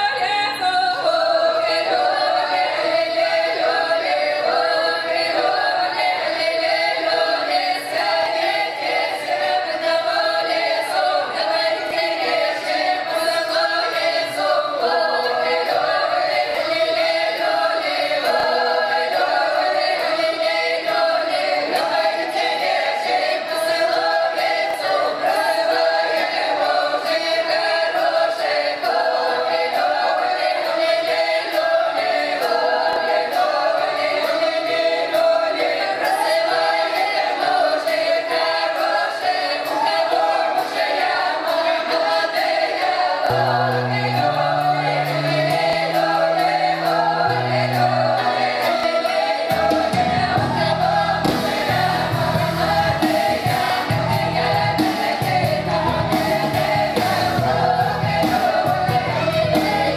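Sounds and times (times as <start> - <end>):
women's choir singing folk song: 0.0 - 59.9.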